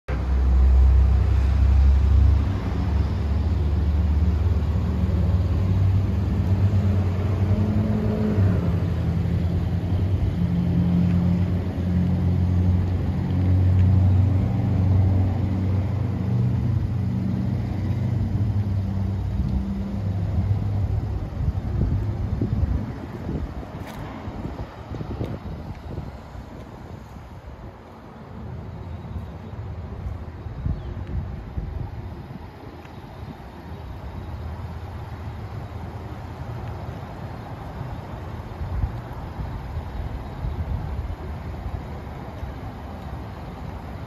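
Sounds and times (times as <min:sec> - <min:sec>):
vehicle engine rumbling: 0:00.1 - 0:44.0.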